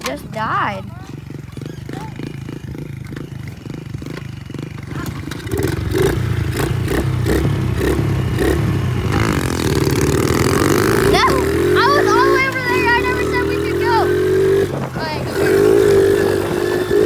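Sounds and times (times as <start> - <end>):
small motorbike engine revving: 0.0 - 17.0.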